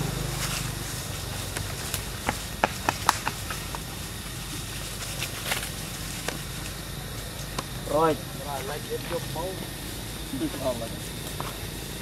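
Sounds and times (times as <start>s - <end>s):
dry leaves and twigs crackling: 0.0s - 12.0s
footsteps crunching on dry leaves: 0.0s - 12.0s
steady low hum: 0.0s - 12.0s.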